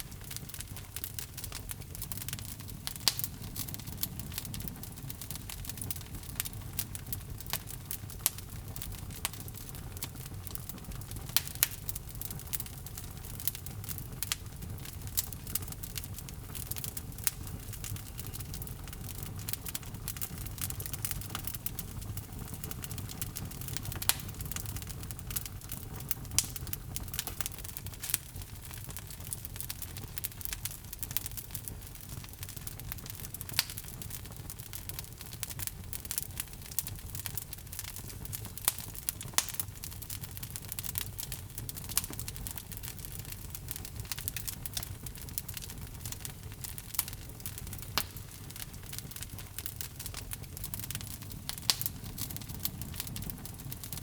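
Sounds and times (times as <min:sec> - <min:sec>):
fire crackles and pops: 0:00.0 - 0:54.0
low rumble of fire: 0:00.0 - 0:54.0.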